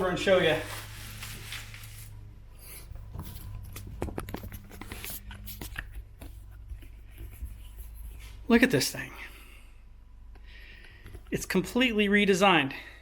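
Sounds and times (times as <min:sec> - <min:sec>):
steady low hum: 0:00.0 - 0:12.1.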